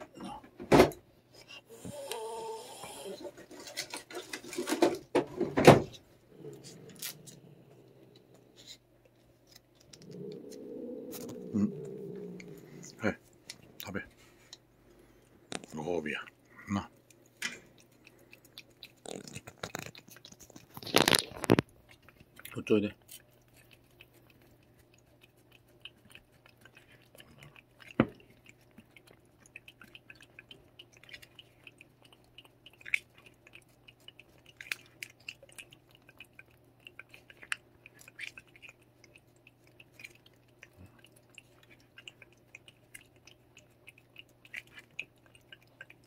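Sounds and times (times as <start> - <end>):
faint low hum: 0.0 - 46.0
cat licking: 5.9 - 46.0.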